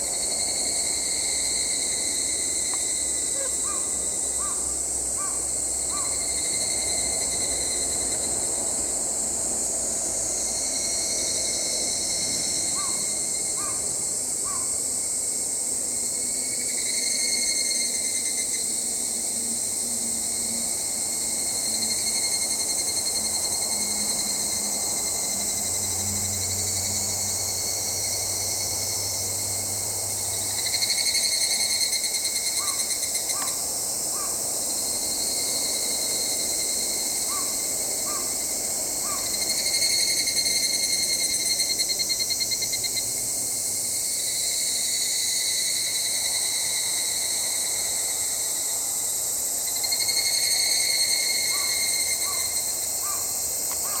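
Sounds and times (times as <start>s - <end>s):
cicadas calling: 0.0s - 54.0s
high-pitched insect chorus: 0.0s - 54.0s
rapidly pulsing cicada phrase: 0.0s - 54.0s.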